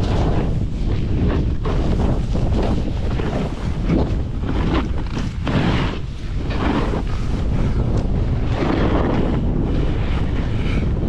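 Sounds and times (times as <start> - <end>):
snowboard edges scraping snow: 0.0 - 11.0
wind buffeting microphone: 0.0 - 11.0.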